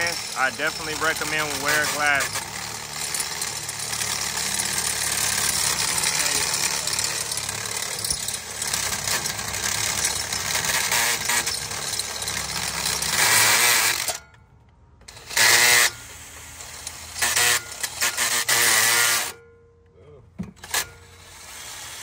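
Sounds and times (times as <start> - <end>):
cordless drill boring: 0.0 - 14.2, 15.1 - 19.4, 20.6 - 22.0.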